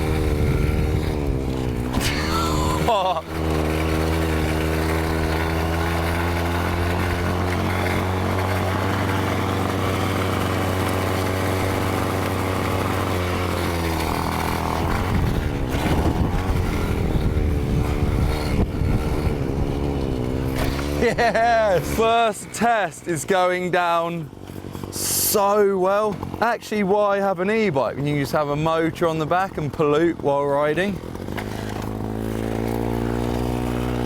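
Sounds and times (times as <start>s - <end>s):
small two-stroke engine running: 0.0s - 34.0s.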